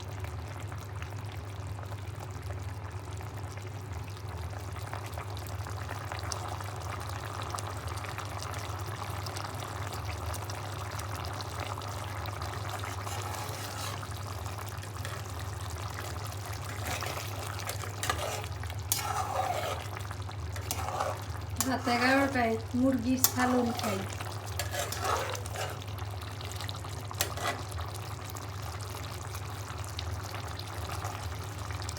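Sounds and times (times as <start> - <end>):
curry bubbling in a pot: 0.0 - 31.9.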